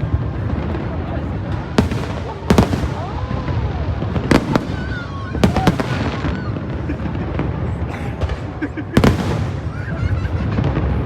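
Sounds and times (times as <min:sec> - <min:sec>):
fireworks sharp bangs: 0:00.0 - 0:11.0
low rumble of fireworks bursts: 0:00.0 - 0:11.0.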